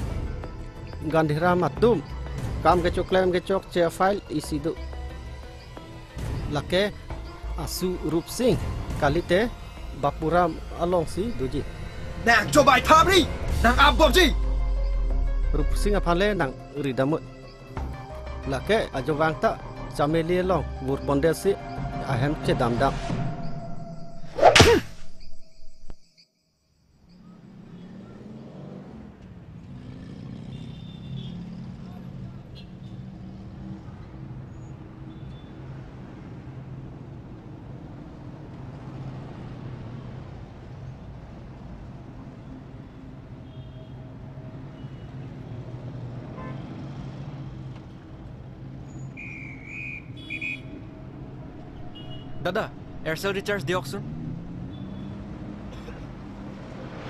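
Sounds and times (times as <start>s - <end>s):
street traffic hum: 0.0s - 25.0s, 27.0s - 57.0s.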